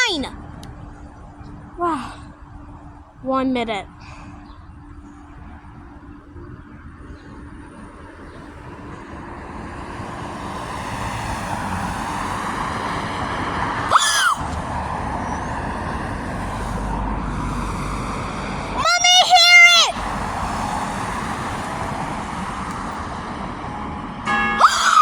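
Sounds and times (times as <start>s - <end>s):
road traffic noise: 0.0s - 25.0s
vehicle approaching: 0.0s - 25.0s.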